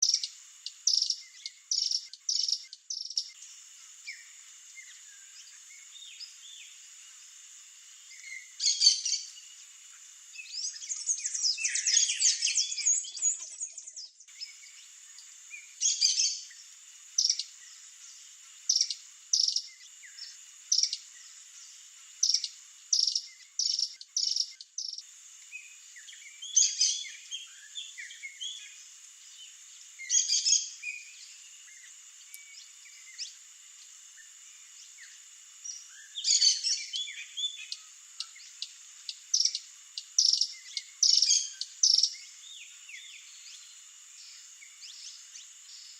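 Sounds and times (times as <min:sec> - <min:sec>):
high insect hum: 0:00.0 - 0:45.9.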